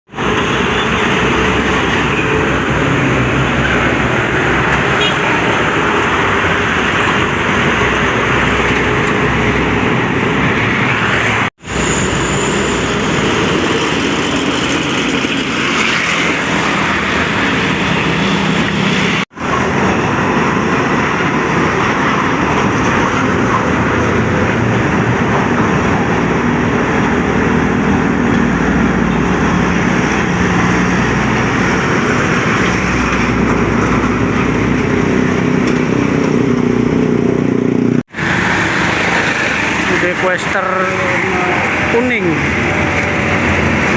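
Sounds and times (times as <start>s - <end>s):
highway traffic passing: 0.1s - 43.9s.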